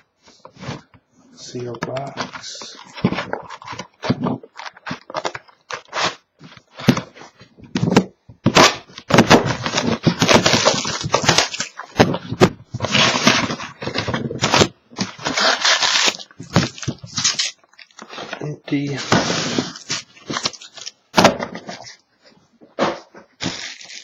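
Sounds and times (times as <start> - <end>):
plastic shrink wrap crinkling: 1.6 - 21.1, 23.4 - 24.0.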